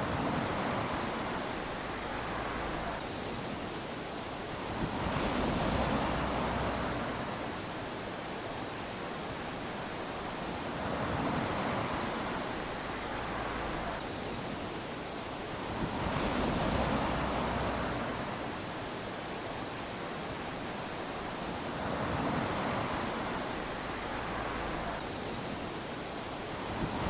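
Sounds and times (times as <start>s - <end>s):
waves lapping on sandy beach: 0.0s - 27.0s.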